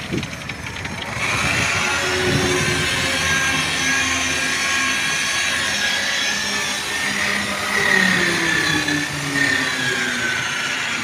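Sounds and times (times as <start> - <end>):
car polisher motor whine: 0.0 - 11.0.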